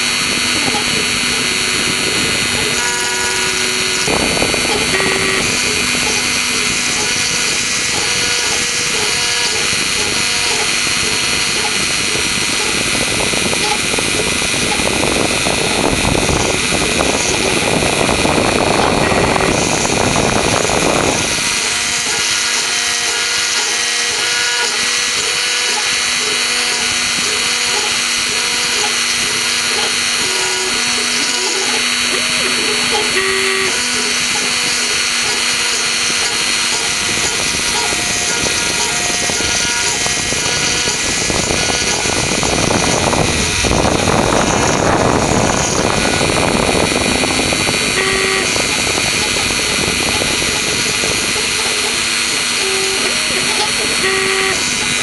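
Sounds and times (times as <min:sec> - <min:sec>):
motor tones changing pitch: 0:00.0 - 0:55.0
spindle high whine: 0:00.0 - 0:55.0.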